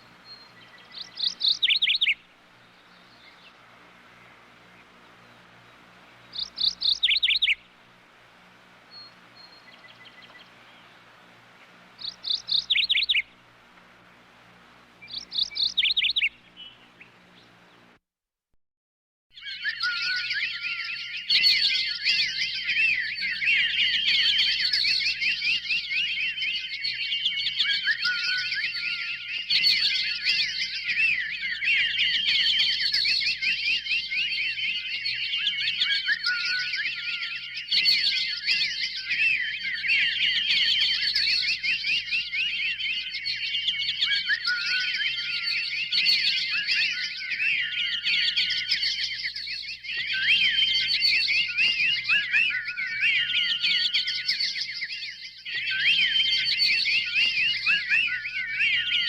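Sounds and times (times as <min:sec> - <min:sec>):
songbirds chirping and trilling: 0:00.0 - 0:18.0, 0:19.3 - 0:59.0.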